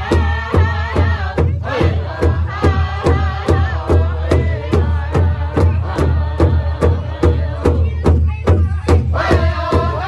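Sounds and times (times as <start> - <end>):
drum group singing: 0.0 - 10.0
large hand drum steady beat: 0.0 - 10.0.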